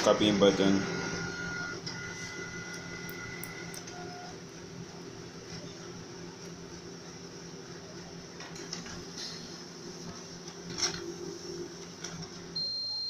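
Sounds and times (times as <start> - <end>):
copier mechanical hum: 0.0 - 13.0.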